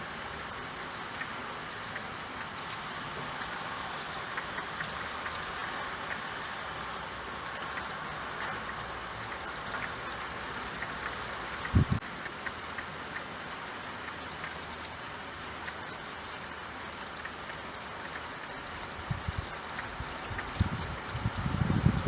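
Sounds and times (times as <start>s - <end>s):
steady rain hiss: 0.0s - 22.0s
water drips: 0.0s - 22.0s.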